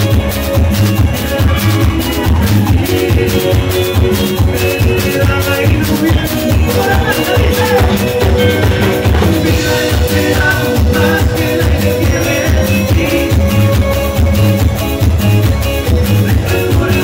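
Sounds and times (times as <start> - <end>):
person singing: 0.0 - 15.0, 15.6 - 17.0
drum kit and percussion: 0.0 - 17.0
live band playing: 0.0 - 17.0.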